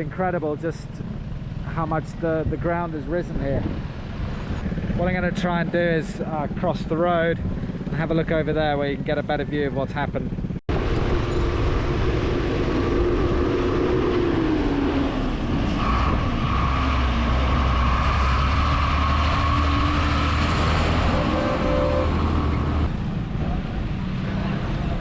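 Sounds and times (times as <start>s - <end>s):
high engine whine: 0.0s - 25.0s.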